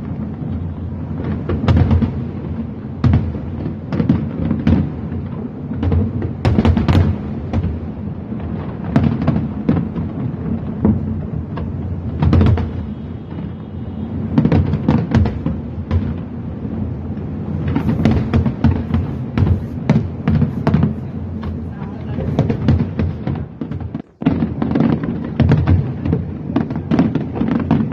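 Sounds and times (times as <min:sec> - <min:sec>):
fireworks booming: 0:00.0 - 0:27.9.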